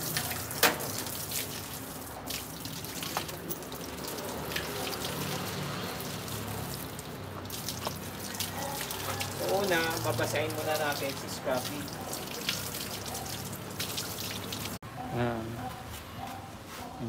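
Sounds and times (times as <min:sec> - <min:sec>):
hose water spraying and splashing: 0:00.0 - 0:14.8
water dripping: 0:00.0 - 0:14.8.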